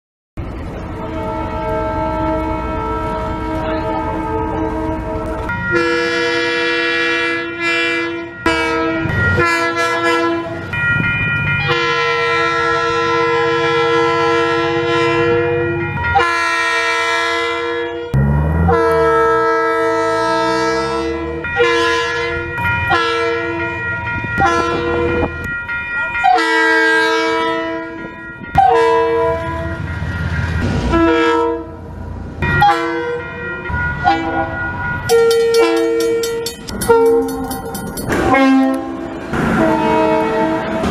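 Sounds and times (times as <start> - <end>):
locomotive rumble: 0.4 - 17.0, 18.1 - 40.9
locomotive air horn blasts: 1.0 - 10.6, 11.6 - 23.8, 24.4 - 25.4, 26.2 - 29.8, 30.9 - 31.8, 32.6 - 33.2, 34.0 - 37.4, 38.2 - 40.9.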